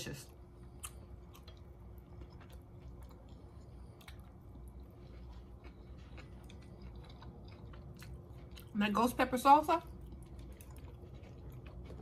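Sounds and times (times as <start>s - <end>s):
person chewing wetly: 0.3s - 8.8s, 9.8s - 12.0s.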